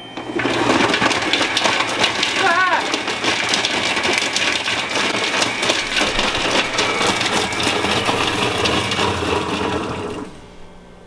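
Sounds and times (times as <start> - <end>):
food processor blades spinning: 0.0 - 10.8
food pieces knocking in bowl: 0.1 - 10.4.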